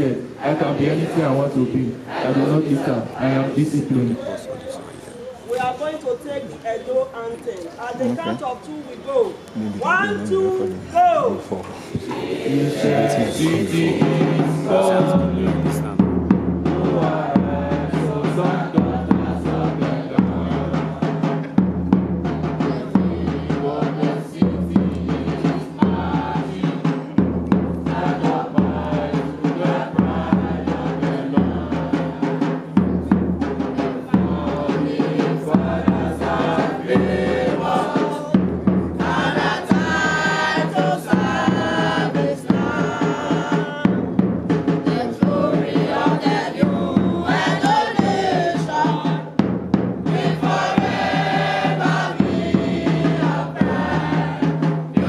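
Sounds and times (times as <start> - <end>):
group of voices singing: 0.0 - 5.3, 11.8 - 55.0
steady drum beat: 9.7 - 55.0.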